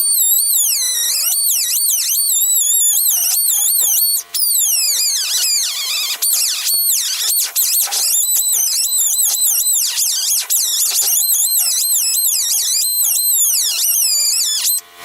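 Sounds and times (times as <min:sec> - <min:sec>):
hand tool squealing against horn: 0:00.0 - 0:15.0.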